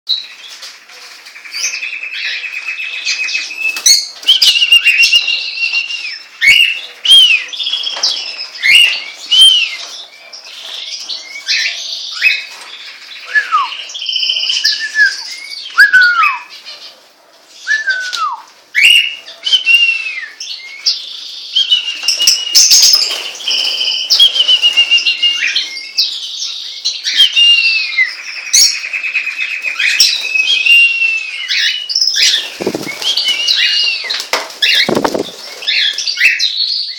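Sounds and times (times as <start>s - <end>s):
pet birds chirping and whistling: 1.3s - 36.9s.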